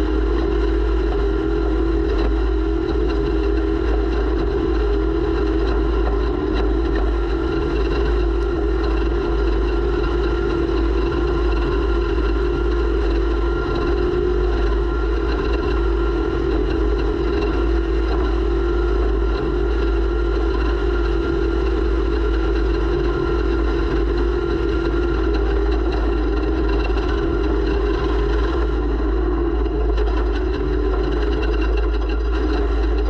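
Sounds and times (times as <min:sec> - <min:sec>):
vehicle engine running steadily: 0:00.0 - 0:33.0.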